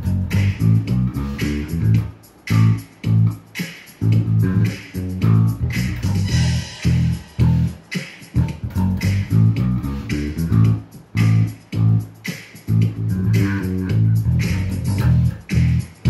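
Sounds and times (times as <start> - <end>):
electric bass guitar riff: 0.0 - 3.4, 4.0 - 12.1, 12.7 - 16.0.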